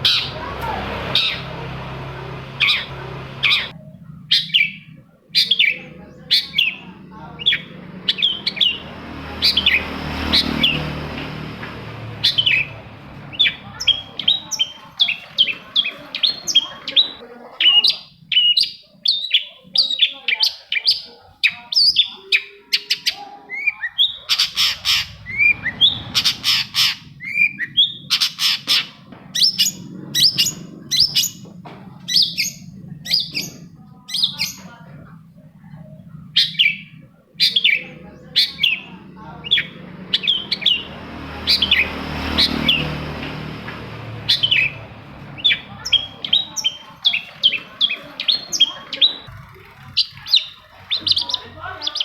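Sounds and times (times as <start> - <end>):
bird sharp chirping notes: 0.0 - 34.8, 35.9 - 52.0.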